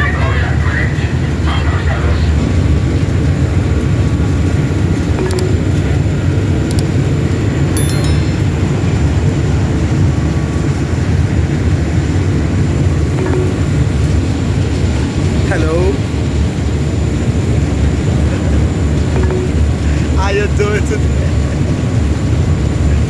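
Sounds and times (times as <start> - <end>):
ferry engines rumbling: 0.0 - 23.0.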